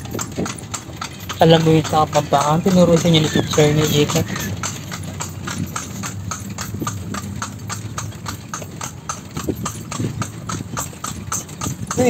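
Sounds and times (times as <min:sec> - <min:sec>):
hooves clip-clopping on pavement: 0:00.0 - 0:12.0.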